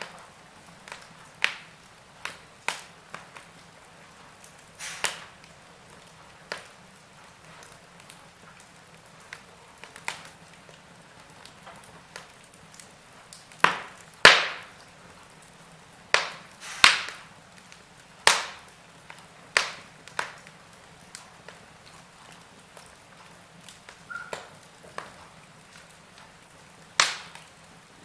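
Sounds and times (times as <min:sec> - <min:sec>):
firewood crackling: 0:00.0 - 0:28.0
loud sharp pops of fire: 0:00.0 - 0:28.0.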